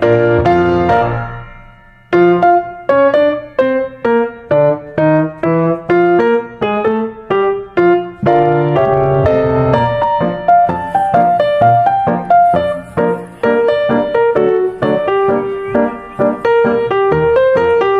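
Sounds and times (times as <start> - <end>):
slow piano melody: 0.0 - 17.9.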